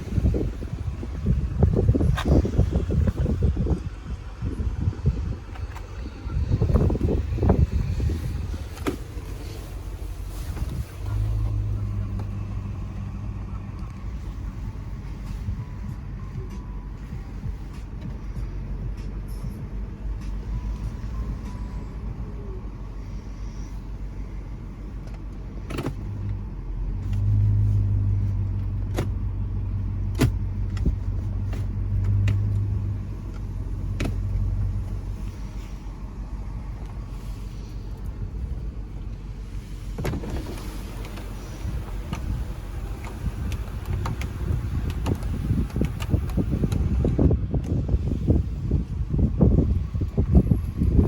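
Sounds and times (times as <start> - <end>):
car engine low drone: 0.0 - 51.0.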